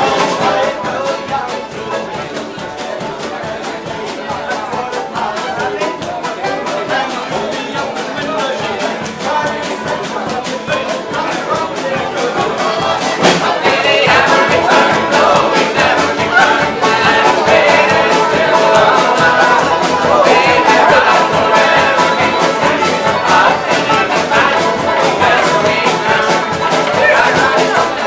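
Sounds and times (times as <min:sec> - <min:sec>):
folk band playing: 0:00.0 - 0:28.0
frame drums beating: 0:00.0 - 0:28.0.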